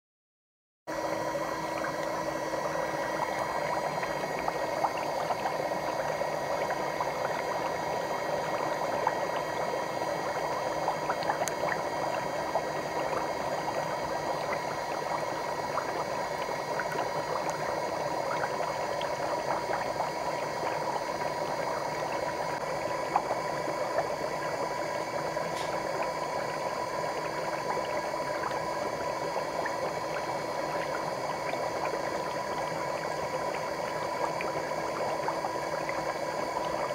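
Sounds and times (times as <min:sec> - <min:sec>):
motor hum: 0:00.9 - 0:36.9
water bubbling and churning: 0:01.0 - 0:36.9
bubbles popping: 0:01.4 - 0:36.9.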